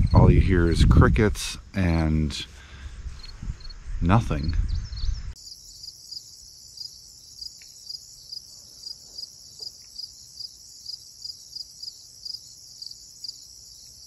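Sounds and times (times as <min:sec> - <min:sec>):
crickets chirping: 0:02.6 - 0:14.0.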